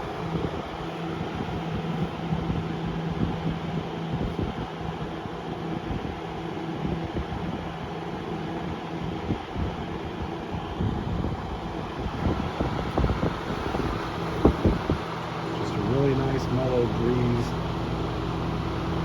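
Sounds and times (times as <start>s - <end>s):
box fan air rushing: 0.0s - 19.0s
faint motor hum: 0.0s - 19.0s.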